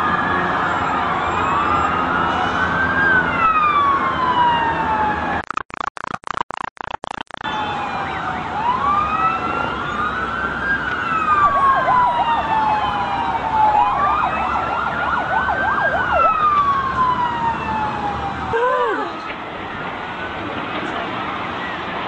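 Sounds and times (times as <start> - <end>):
wailing emergency sirens: 0.0 - 5.4, 7.3 - 22.0
fast warbling siren: 0.0 - 18.6.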